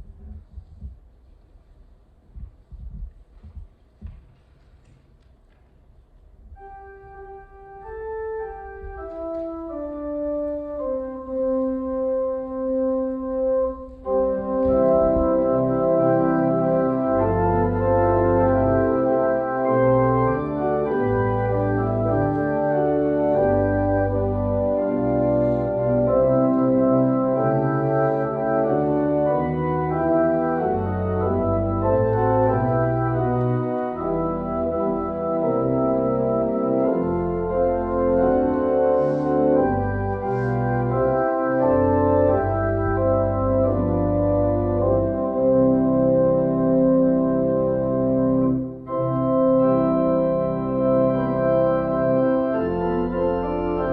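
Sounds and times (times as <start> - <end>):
organ playing slow chords: 6.6 - 53.9.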